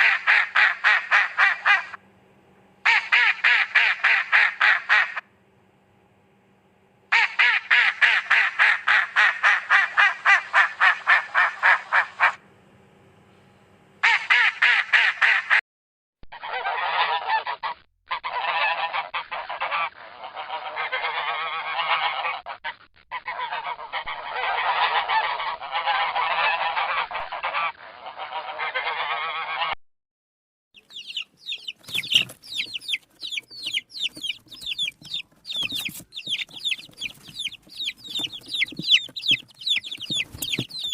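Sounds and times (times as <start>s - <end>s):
fowl honking and calling: 0.0s - 2.0s, 2.8s - 5.2s, 7.1s - 12.4s, 14.0s - 15.6s, 16.4s - 29.8s, 30.8s - 40.9s.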